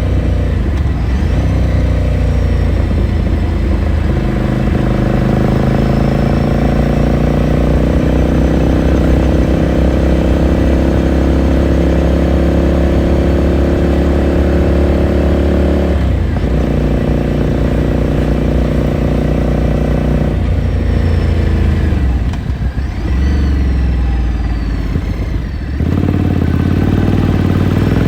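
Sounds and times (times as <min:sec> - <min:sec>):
motorcycle engine and exhaust: 0:00.0 - 0:28.0.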